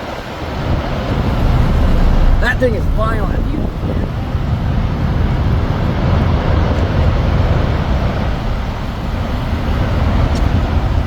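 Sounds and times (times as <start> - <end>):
tornado roaring: 0.0 - 11.0.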